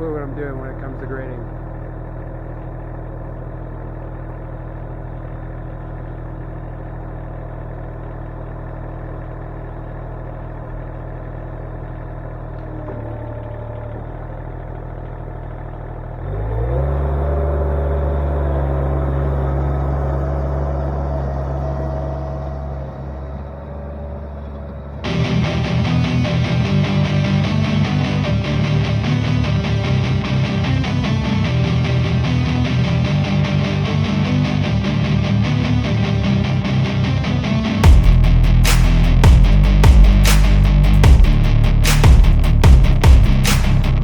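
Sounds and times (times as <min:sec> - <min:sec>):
skid loader engine revving: 0:00.0 - 0:44.0.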